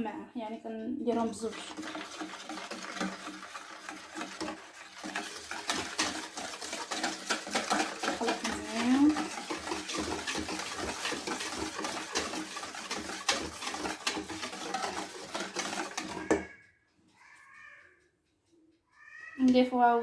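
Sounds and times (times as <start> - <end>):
batter beaten in mixing bowl: 0.8 - 17.8.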